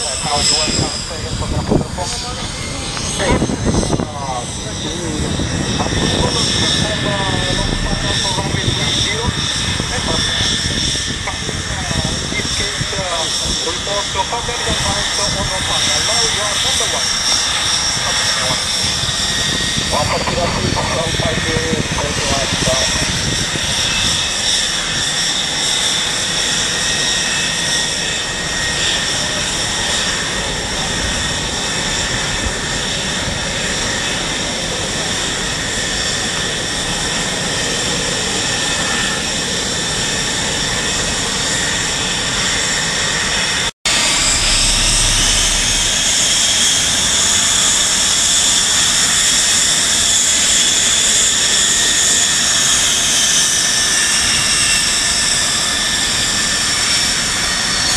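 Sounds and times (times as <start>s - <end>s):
jet engine roar with high whine: 0.0s - 57.9s.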